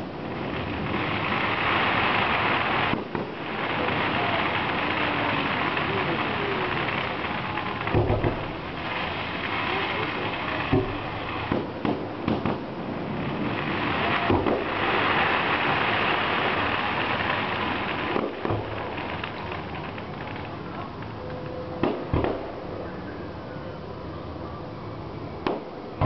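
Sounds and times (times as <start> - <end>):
firework booms: 0.0 - 22.9, 25.4 - 26.0
fireworks crackling: 0.0 - 26.0.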